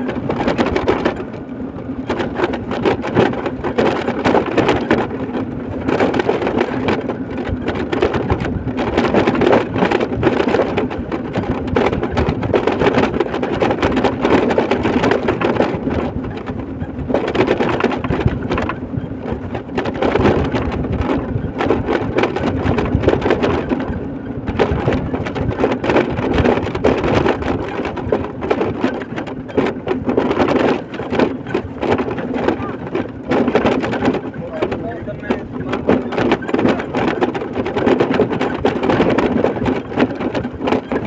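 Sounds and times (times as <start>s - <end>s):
wind buffeting moving vehicle: 0.0s - 41.0s.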